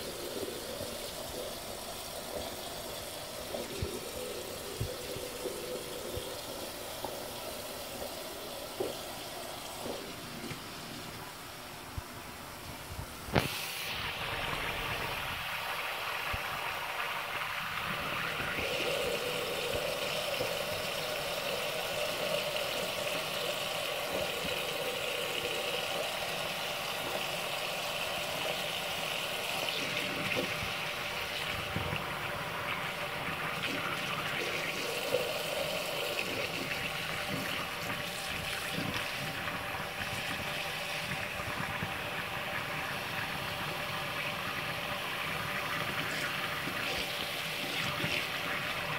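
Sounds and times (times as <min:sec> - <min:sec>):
tap water running into sink: 0:00.0 - 0:12.1, 0:13.0 - 0:48.9.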